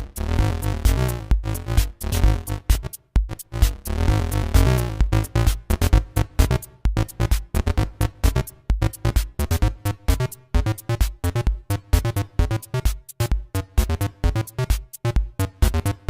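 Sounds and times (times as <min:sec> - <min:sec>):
electronic kick drum: 0:00.0 - 0:16.0
staccato synthesizer notes: 0:00.0 - 0:16.0.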